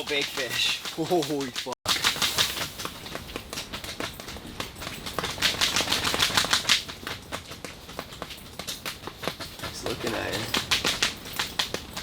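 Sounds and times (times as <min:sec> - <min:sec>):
fabric flapping in wind: 0:00.0 - 0:12.0.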